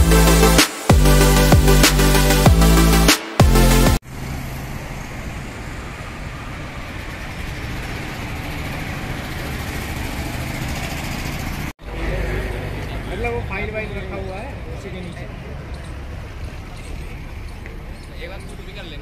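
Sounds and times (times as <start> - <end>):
street traffic hum: 0.0 - 19.0.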